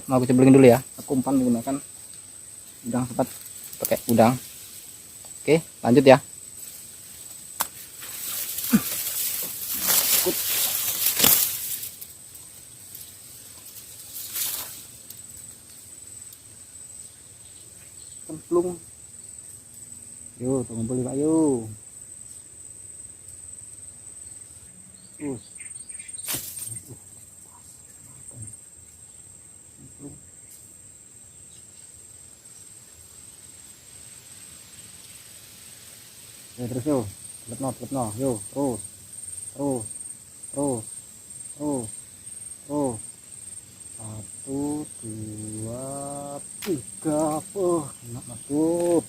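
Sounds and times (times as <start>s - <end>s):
rustling hissing noise: 0.0s - 20.3s, 26.1s - 29.4s, 30.0s - 49.0s
high-pitched insect trill: 0.0s - 49.0s.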